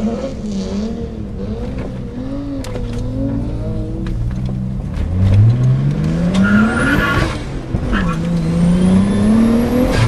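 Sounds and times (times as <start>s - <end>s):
race car engine revving: 0.0s - 10.0s.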